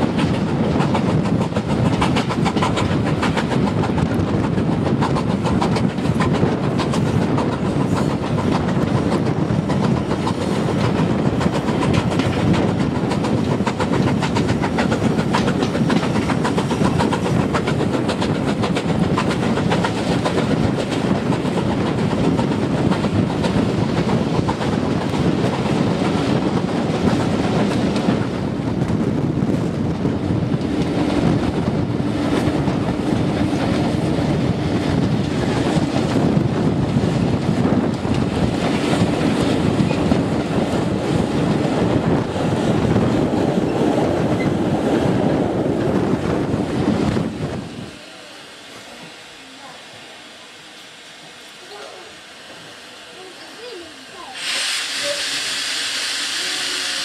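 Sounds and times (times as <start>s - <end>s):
train wheels clattering on track: 0.0s - 47.9s, 53.6s - 57.0s
steam locomotive working: 0.0s - 57.0s.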